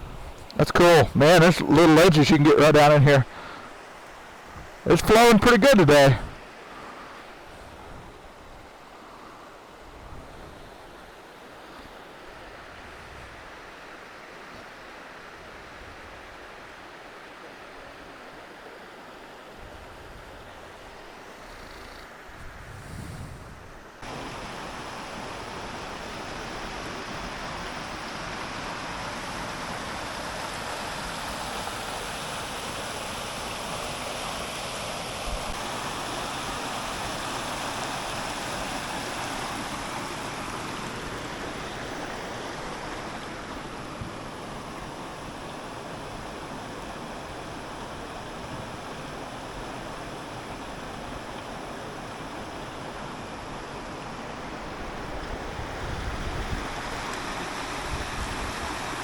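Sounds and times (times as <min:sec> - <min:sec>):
waterfall and creek rushing: 0:00.0 - 0:22.4, 0:23.7 - 0:59.0.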